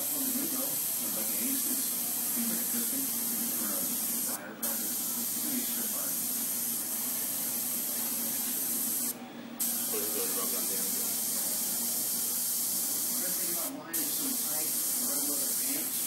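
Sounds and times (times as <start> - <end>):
airbrush spraying hiss: 0.0 - 16.0.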